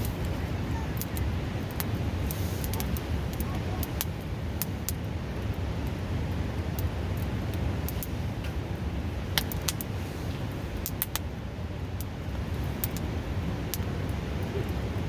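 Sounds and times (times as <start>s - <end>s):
campfire crackling and popping: 0.0s - 15.0s
river rushing: 0.0s - 15.0s.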